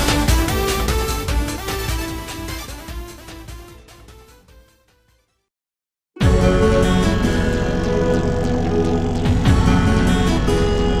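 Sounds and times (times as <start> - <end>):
loud music: 0.0 - 4.3, 6.2 - 11.0
music: 0.0 - 5.5, 6.2 - 11.0.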